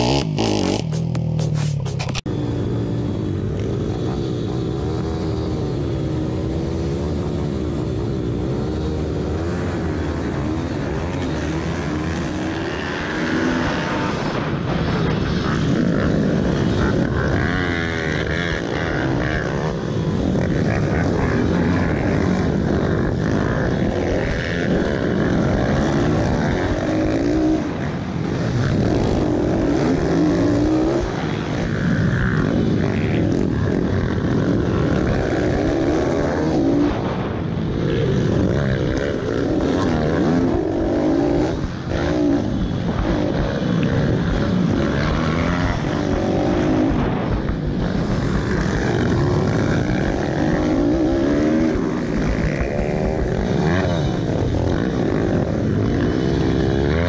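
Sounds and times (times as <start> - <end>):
pit bike engines revving: 0.0 - 57.0.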